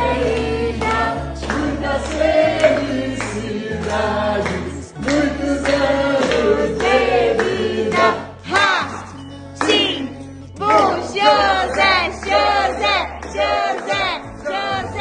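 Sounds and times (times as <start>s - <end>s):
many voices singing over music: 0.0s - 15.0s.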